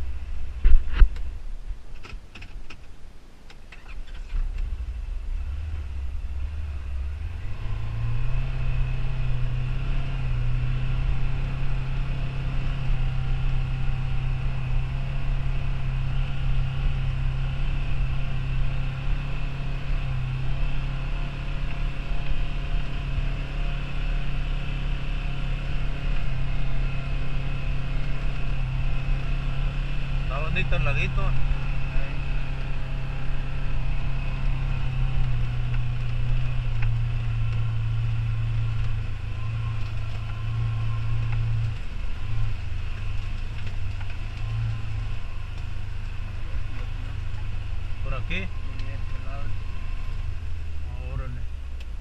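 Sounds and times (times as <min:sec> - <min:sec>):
utility vehicle engine running: 0:03.7 - 0:52.0.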